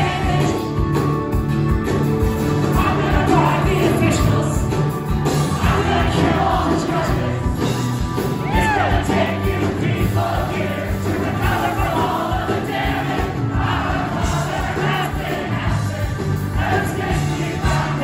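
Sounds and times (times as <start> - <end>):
crowd singing along: 0.0 - 1.5, 2.3 - 18.0
live indie rock band: 0.0 - 18.0.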